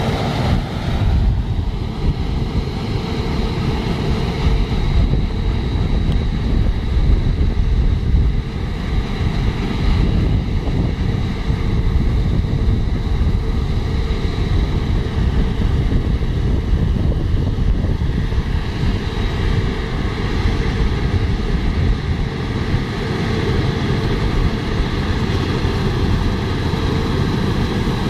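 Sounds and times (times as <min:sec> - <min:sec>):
combine harvester running: 0:00.0 - 0:28.0
wind rumbling on microphone: 0:00.0 - 0:28.0.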